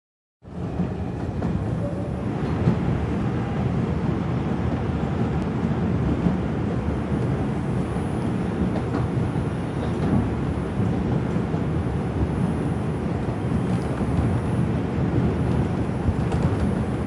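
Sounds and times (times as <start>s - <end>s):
train wheels rumbling on rails: 0.4s - 17.0s.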